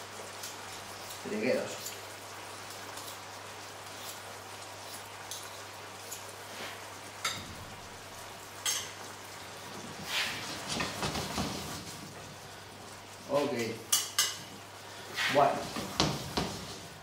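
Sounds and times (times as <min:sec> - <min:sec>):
pan sizzling softly: 0:00.0 - 0:17.0.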